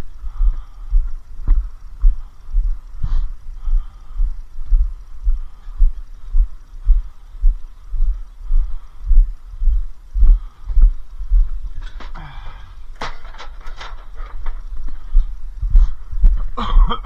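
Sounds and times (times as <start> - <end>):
footsteps as dull thumps: 0.4 - 12.2, 13.8 - 17.0.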